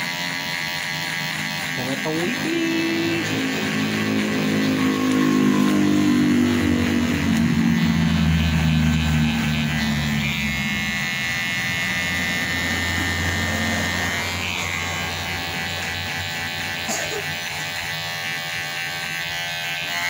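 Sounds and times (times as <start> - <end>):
electric hair clipper buzzing: 0.0 - 20.0.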